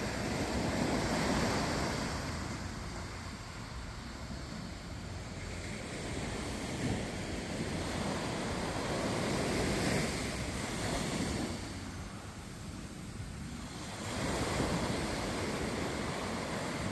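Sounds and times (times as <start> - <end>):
ocean waves washing in: 0.0 - 16.9.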